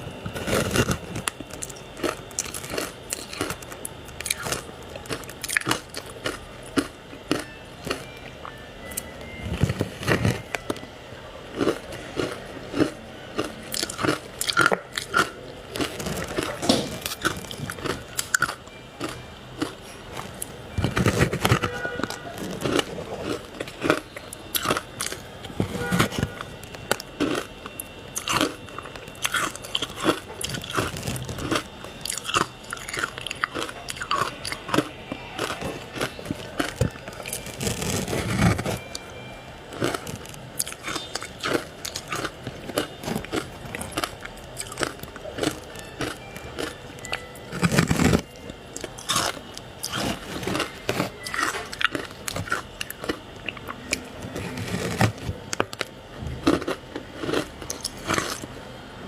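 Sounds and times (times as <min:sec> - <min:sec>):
ice being chewed: 0:00.0 - 0:10.9, 0:11.5 - 0:58.5.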